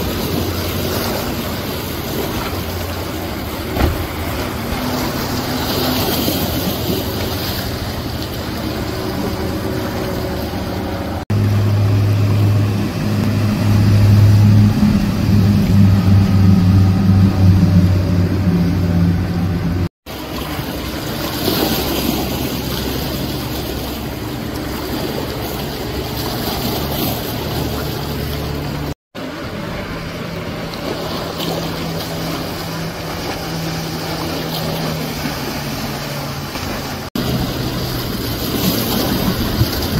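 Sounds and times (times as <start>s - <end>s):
boat motor drone: 0.0s - 39.9s
rush of hull spray: 0.0s - 39.9s.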